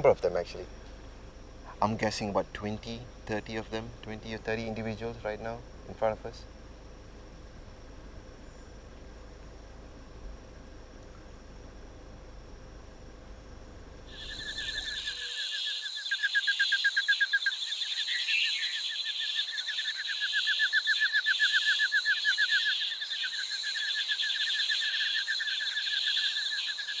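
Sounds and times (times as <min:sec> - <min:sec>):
cicadas pulsing and droning: 0:00.0 - 0:27.0.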